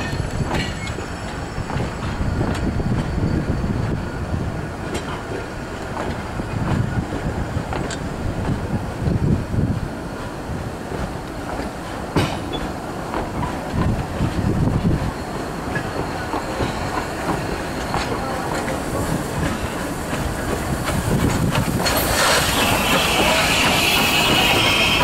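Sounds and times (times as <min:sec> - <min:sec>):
steam hissing: 0:00.0 - 0:25.0
train wheels clicking over rail joints: 0:00.0 - 0:25.0.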